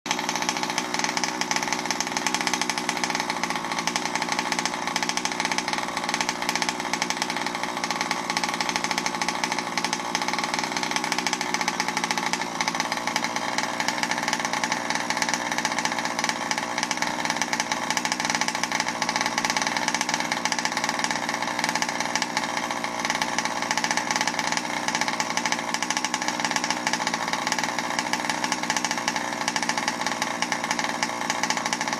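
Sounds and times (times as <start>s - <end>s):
two-stroke engine running steadily: 0.1s - 31.9s.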